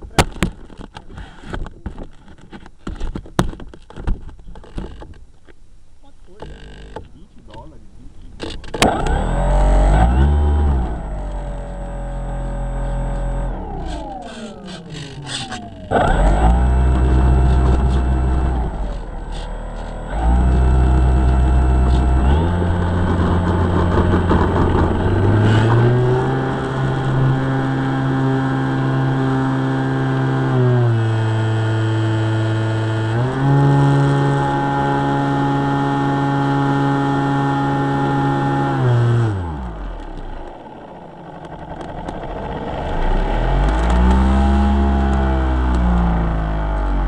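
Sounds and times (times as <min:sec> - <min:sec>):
electric propeller motor droning: 0:08.6 - 0:47.0.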